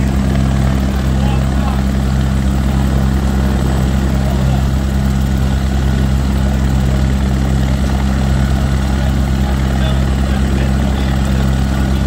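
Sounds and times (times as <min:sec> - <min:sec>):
helicopter engine and rotor running: 0:00.0 - 0:12.0.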